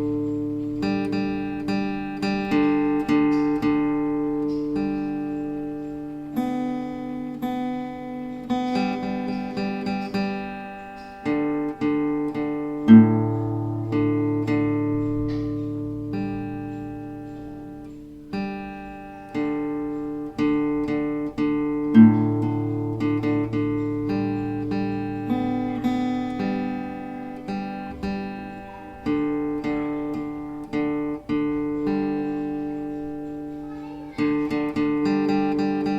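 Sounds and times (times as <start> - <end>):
plucked acoustic guitar: 0.0 - 35.9.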